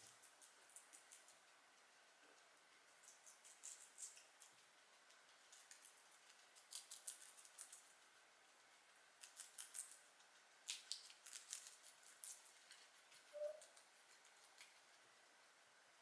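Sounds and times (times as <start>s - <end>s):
guinea pig squeak: 0.0s - 2.0s, 2.9s - 8.2s, 9.2s - 14.8s
guinea pigs chewing vegetables: 0.0s - 16.0s.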